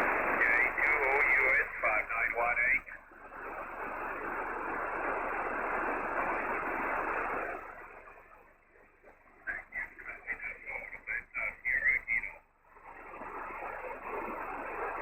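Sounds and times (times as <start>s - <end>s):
faint radio stations: 0.0s - 7.8s, 9.0s - 15.0s
radio band noise hiss: 0.0s - 8.2s, 8.8s - 15.0s.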